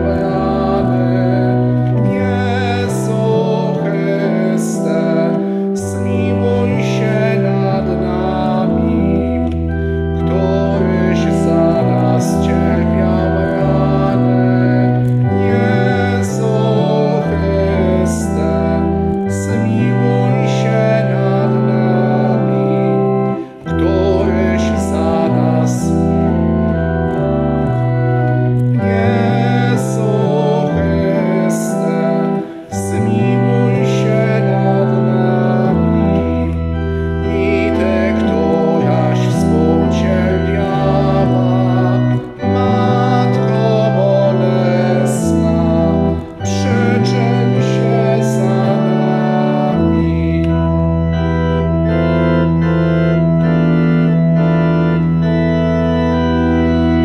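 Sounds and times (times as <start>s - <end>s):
people singing: 0.0s - 9.6s, 10.2s - 26.1s, 28.8s - 36.6s, 37.2s - 50.5s
church organ chords: 0.0s - 57.0s.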